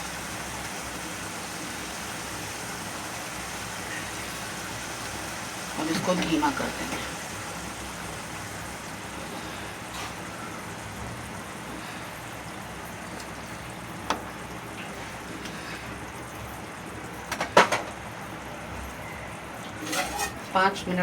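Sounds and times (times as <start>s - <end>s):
gravy sizzling and bubbling: 0.0s - 21.0s.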